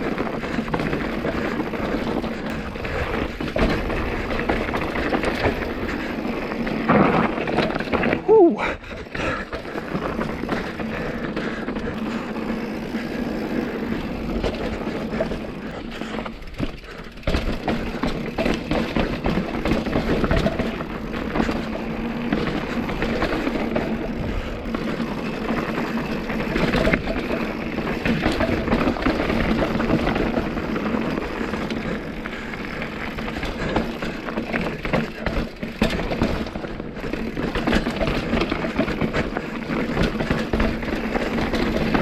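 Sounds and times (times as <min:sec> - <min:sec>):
bike knocking and rattling: 0:00.0 - 0:42.0
bike tyres on rocky trail: 0:00.0 - 0:42.0.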